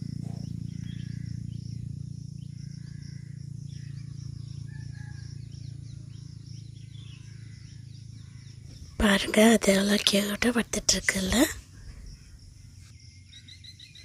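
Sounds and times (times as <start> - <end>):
high insect drone: 0.0 - 14.0
low hum: 0.0 - 14.0
small birds chirping: 0.0 - 14.0.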